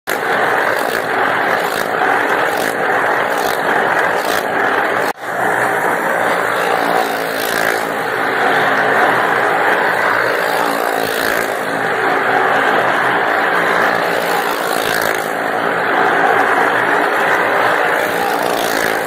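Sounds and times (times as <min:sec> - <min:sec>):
motorcycle and car engines revving: 0:00.1 - 0:19.0.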